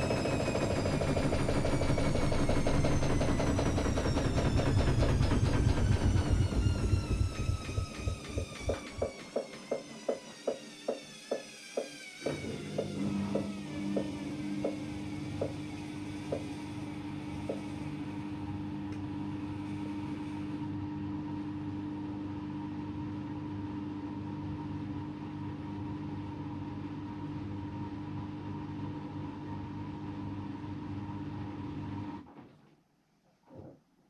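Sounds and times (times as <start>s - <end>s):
washer-dryer motor hum: 0.0s - 32.4s.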